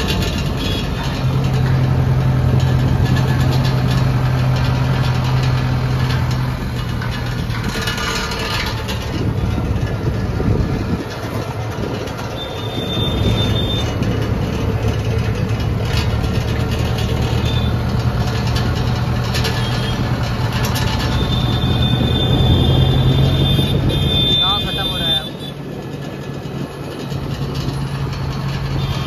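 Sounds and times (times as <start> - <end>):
rattling and clanking: 0.0 - 29.0
tractor engine droning: 0.0 - 29.0.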